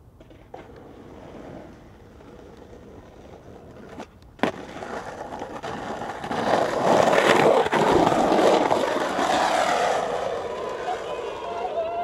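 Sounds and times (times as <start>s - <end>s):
skateboard wheels rolling on concrete: 0.0s - 12.0s
skateboard clack: 0.1s - 12.0s.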